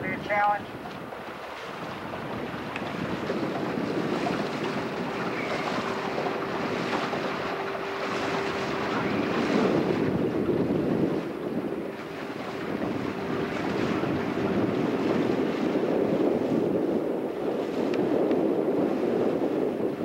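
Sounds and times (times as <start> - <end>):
water rushing past boat: 0.0 - 20.0
wind rumbling on microphone: 0.0 - 20.0.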